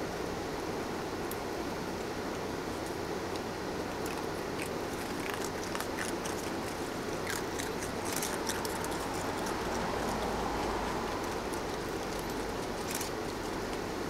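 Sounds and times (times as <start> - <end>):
steady background hiss: 0.0 - 14.0
raccoons crunching food: 1.3 - 14.0.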